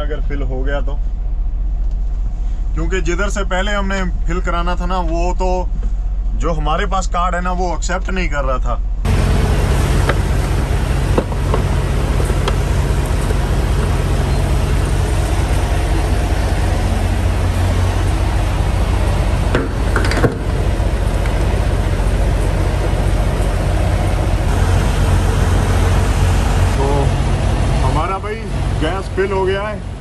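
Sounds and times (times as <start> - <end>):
diesel truck engines idling: 0.0 - 30.0.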